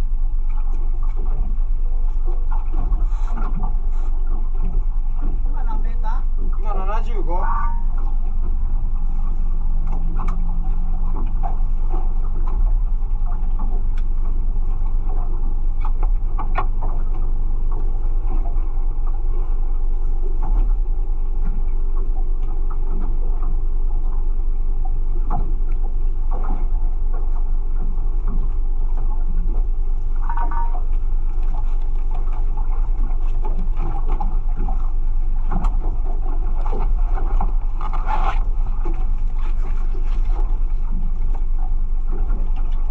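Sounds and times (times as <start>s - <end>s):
faint engine hum: 0.0s - 42.9s
low rumble aboard boat: 0.0s - 42.9s.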